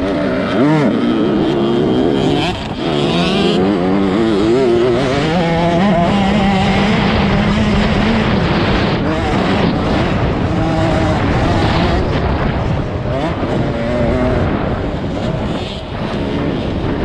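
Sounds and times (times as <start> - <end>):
motocross bike engine: 0.0 - 17.0.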